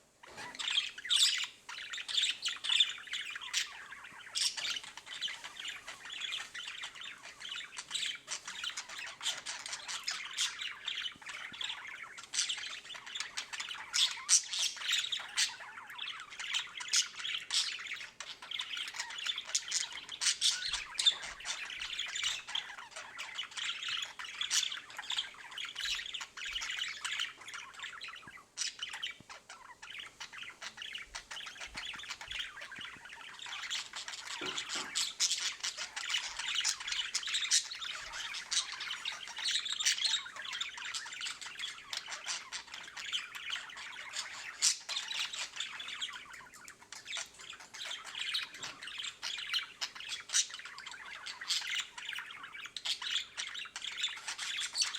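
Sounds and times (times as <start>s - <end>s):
budgerigar chattering and squawking: 0.3s - 54.9s.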